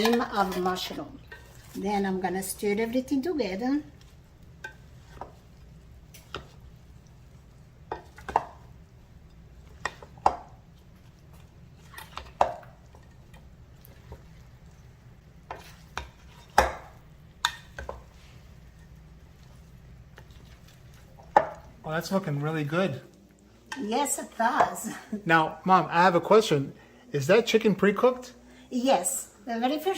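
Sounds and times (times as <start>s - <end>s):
spoon stirring thick filling: 0.0s - 24.8s.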